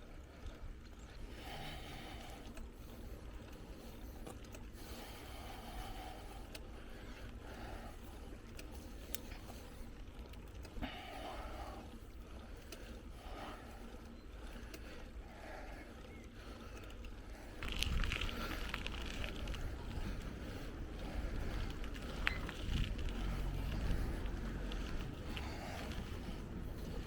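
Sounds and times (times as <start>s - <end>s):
bicycle rattles and clicks: 0.0s - 27.0s
bicycle tyres on dirt: 0.0s - 27.0s.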